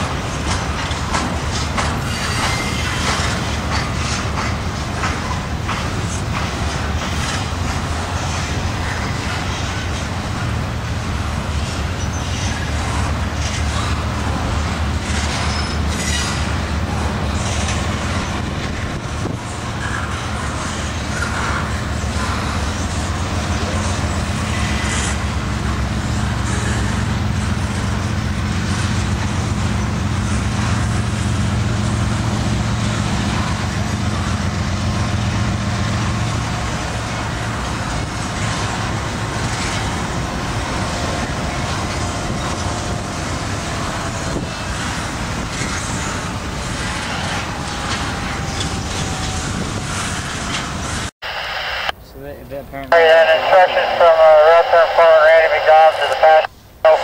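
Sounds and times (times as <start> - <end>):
train wheels clattering on rail: 0.0 - 51.1
locomotive engine drone: 0.0 - 52.0, 52.6 - 57.0.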